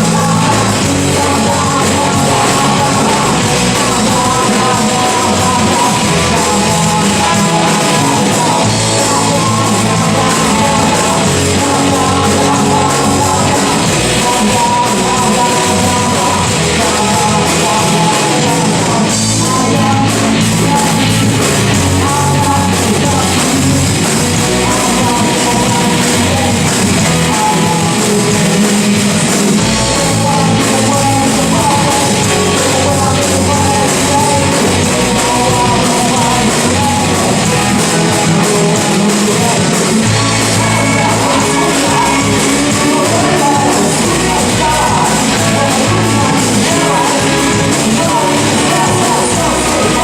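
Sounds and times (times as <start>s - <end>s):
live rock band playing: 0.0s - 50.0s
person singing: 0.0s - 50.0s.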